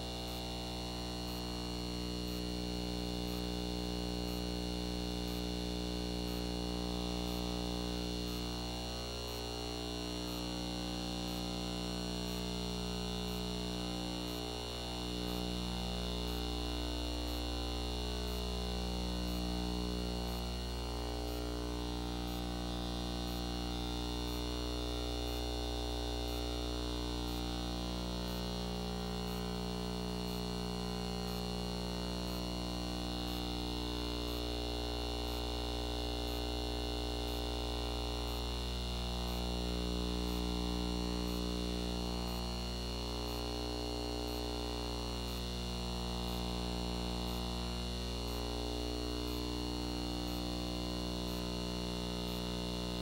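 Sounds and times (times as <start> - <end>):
droning hum of held tones: 0.0 - 53.0.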